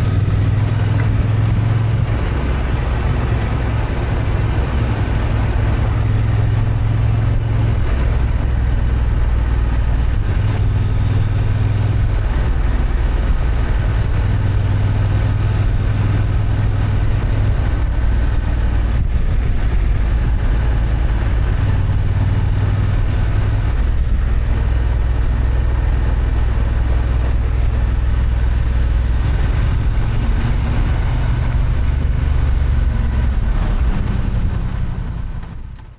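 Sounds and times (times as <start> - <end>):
motorcycle engine running: 0.0 - 35.9
wind noise on microphone: 0.0 - 35.9.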